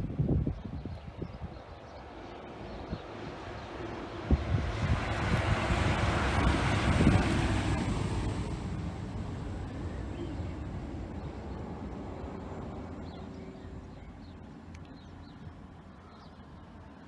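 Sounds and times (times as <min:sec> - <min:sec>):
diesel train passing: 0:01.4 - 0:17.0.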